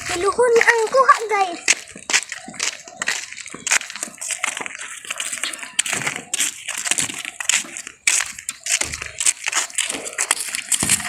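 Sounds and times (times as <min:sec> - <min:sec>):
crackling and rustling: 0:00.0 - 0:11.0
sharp crunches: 0:00.0 - 0:11.0.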